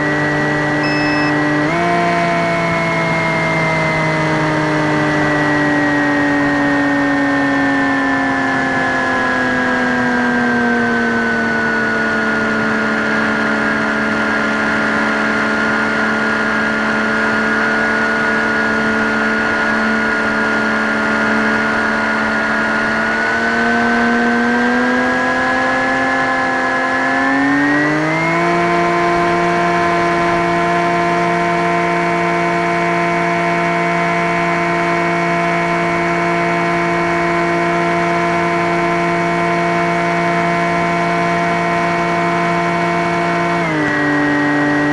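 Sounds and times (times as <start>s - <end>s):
electric motor and propeller whine: 0.0s - 44.9s.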